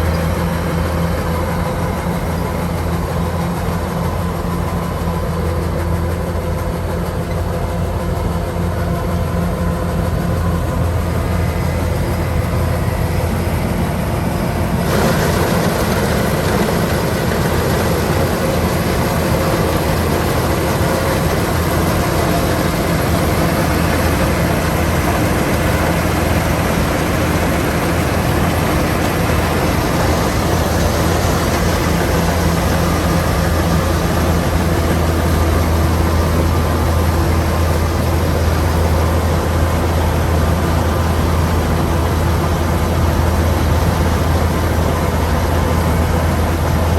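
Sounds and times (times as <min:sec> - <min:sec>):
combine harvester diesel drone: 0:00.0 - 0:46.9
machinery clatter: 0:00.0 - 0:46.9.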